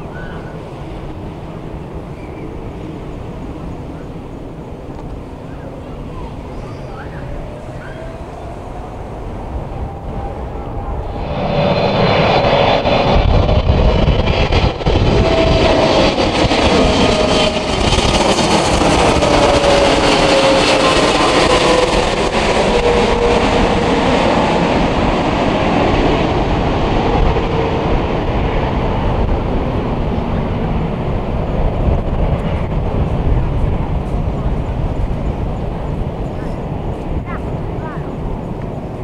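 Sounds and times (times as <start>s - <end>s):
jet airliner passing overhead: 0.0s - 39.0s.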